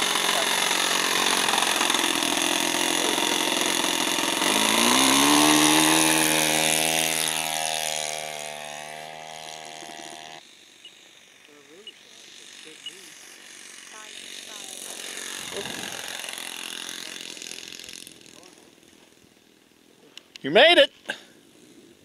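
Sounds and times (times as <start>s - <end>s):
model plane engine running: 0.0s - 19.9s.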